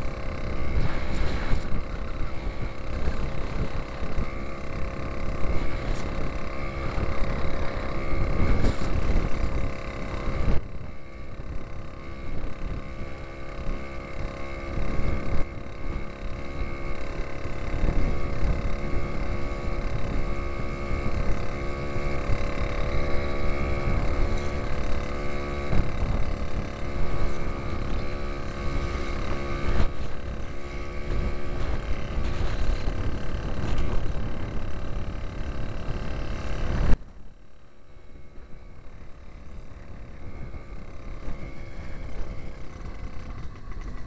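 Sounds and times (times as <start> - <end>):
wind rushing over microphone: 0.0 - 37.1, 38.2 - 44.0
two-stroke engine running: 0.0 - 44.0.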